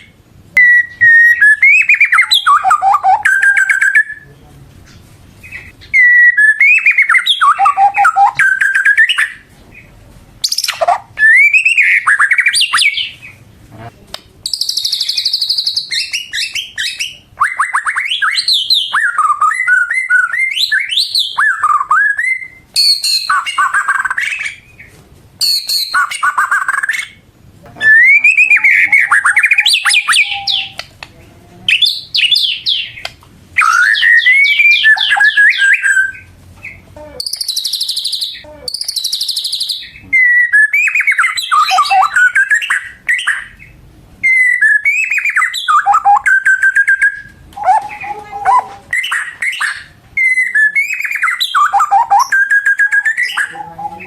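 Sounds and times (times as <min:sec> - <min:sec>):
songbird whistling song: 0:00.0 - 0:04.4, 0:05.4 - 0:13.4, 0:14.4 - 0:27.2, 0:27.8 - 0:31.0, 0:31.7 - 0:54.0.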